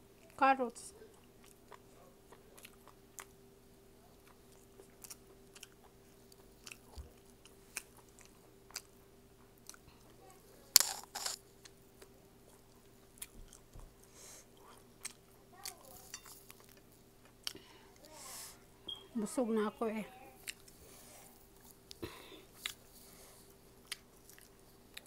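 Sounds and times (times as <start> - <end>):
chewing with crunches: 1.0 - 3.4, 4.0 - 10.2, 10.8 - 18.2, 20.4 - 25.0.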